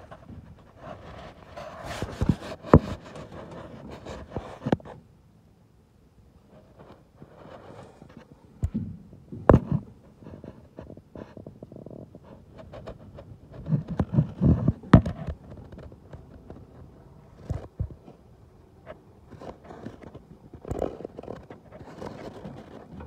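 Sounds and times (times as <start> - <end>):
camera rubbing against sheet metal: 0.0 - 5.0, 6.5 - 8.3, 9.5 - 18.2, 18.8 - 23.0.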